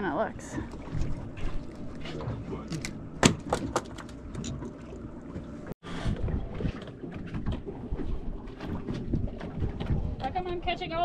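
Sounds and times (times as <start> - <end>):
water noise around boat: 0.0 - 11.0
wind: 0.0 - 11.0.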